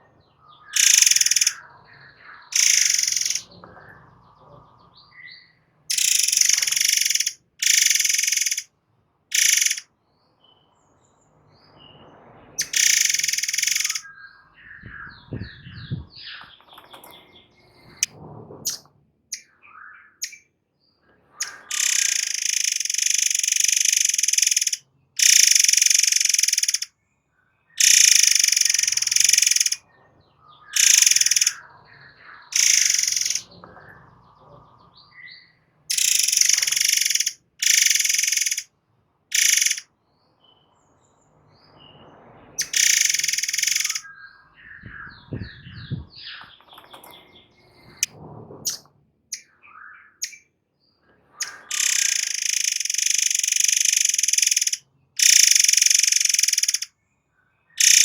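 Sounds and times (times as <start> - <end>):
soft bird chirps: 0.0 - 8.7, 9.3 - 18.1, 18.7 - 38.7, 39.3 - 48.1, 48.7 - 58.0
bird harsh rattling song: 0.6 - 1.7, 2.3 - 8.7, 9.3 - 10.6, 12.6 - 20.5, 21.4 - 26.9, 27.8 - 29.8, 30.4 - 38.7, 39.3 - 39.9, 42.6 - 50.5, 51.4 - 56.9, 57.8 - 58.0.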